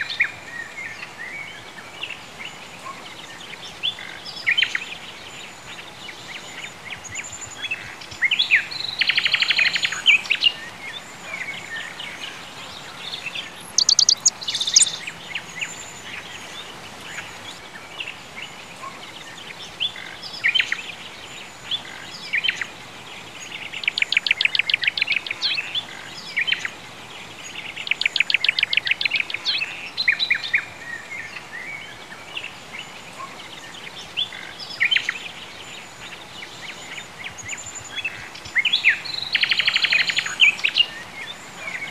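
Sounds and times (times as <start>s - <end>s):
faint steady hiss: 0.0s - 41.9s
songbirds chirping and trilling: 0.0s - 41.9s.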